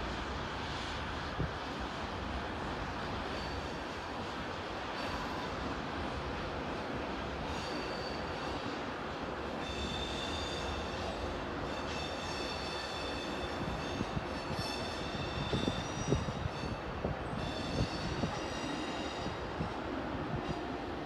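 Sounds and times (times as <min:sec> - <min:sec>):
train rumbling slowly: 0:00.0 - 0:21.0.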